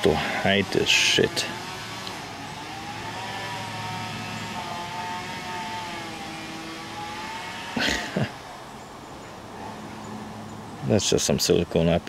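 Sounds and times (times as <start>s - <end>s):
distant engine droning: 0.0s - 12.0s.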